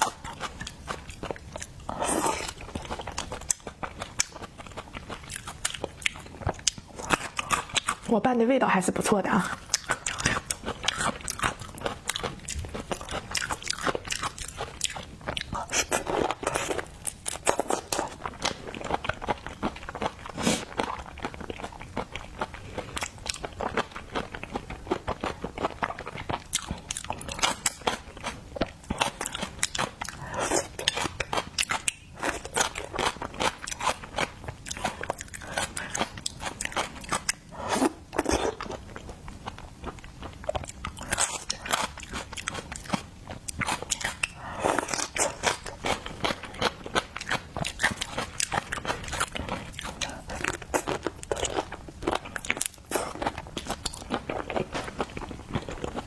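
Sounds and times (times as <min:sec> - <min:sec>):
crunching and chewing: 0:00.0 - 0:08.1, 0:09.4 - 0:56.0.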